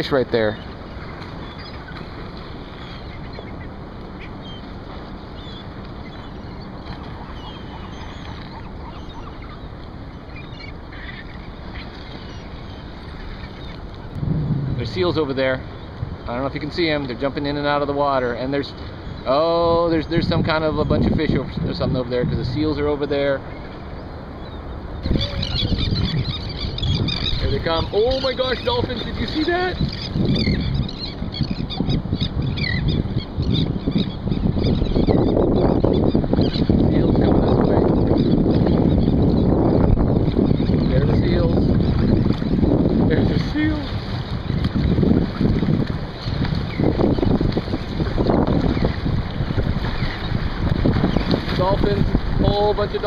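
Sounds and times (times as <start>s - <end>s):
sea water washing: 0.0s - 53.0s
wind: 0.0s - 53.0s
faint bird calls: 0.3s - 14.1s, 17.6s - 21.1s, 22.6s - 45.1s, 48.6s - 51.8s.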